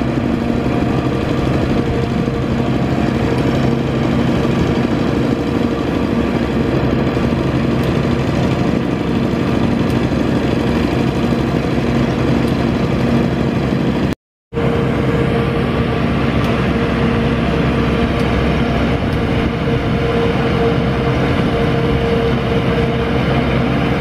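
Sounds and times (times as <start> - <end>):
steady whine: 0.0 - 24.0
tiller engine running: 0.0 - 24.0.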